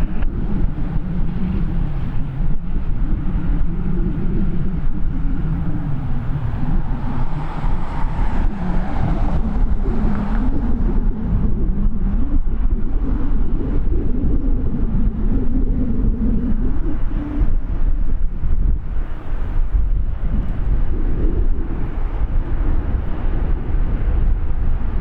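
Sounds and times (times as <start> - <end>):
jet aircraft engine: 0.0 - 25.0
wind buffeting microphone: 0.0 - 25.0.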